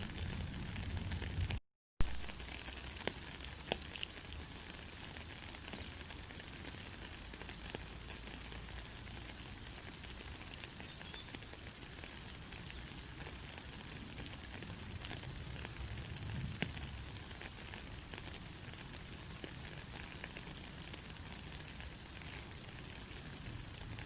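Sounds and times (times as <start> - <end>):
faint crackles and ticks: 0.0 - 24.0.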